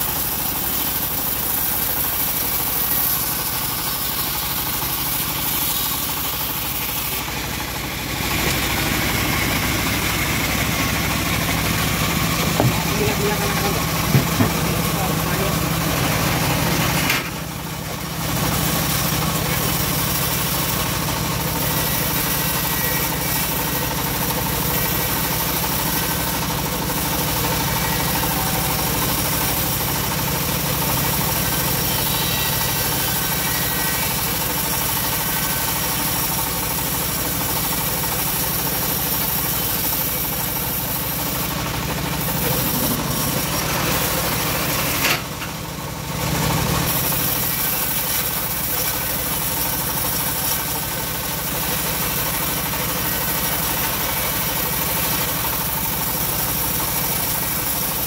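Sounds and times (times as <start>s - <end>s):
bandsaw mill cutting wood: 0.0s - 58.0s
stationary engine running: 0.0s - 58.0s.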